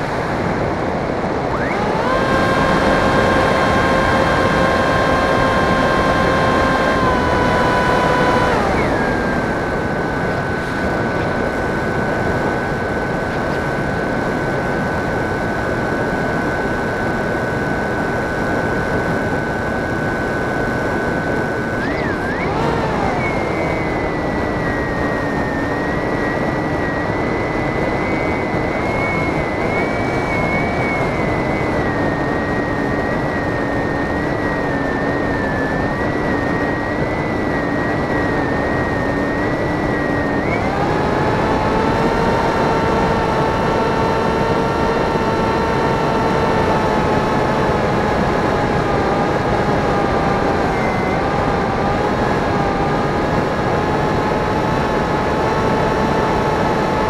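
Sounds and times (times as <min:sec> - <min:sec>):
model plane motor whine: 0:00.0 - 0:57.0.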